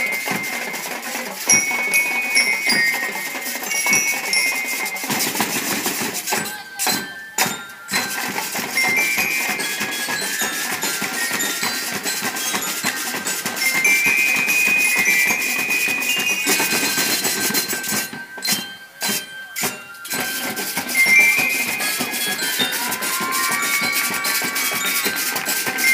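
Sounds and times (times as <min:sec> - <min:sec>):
bell-like metallic notes: 0:00.0 - 0:25.9
snare drums playing rapidly: 0:00.0 - 0:25.9.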